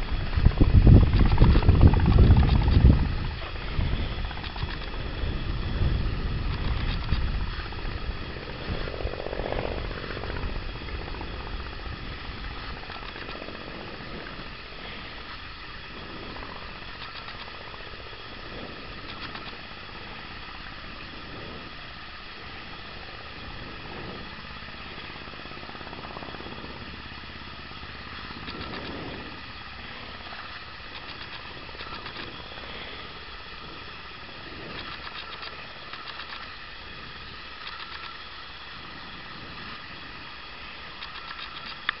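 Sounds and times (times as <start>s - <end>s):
aircraft engine droning overhead: 0.0s - 42.0s.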